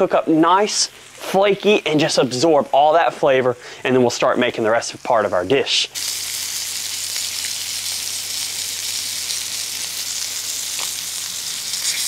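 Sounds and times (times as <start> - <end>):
fish sizzling in a pan: 0.0 - 3.0, 4.6 - 12.0.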